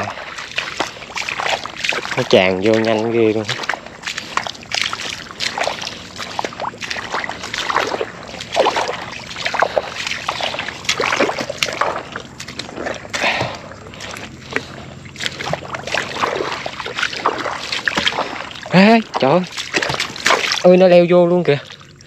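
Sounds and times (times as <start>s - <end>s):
footsteps splashing in water: 0.0s - 22.0s.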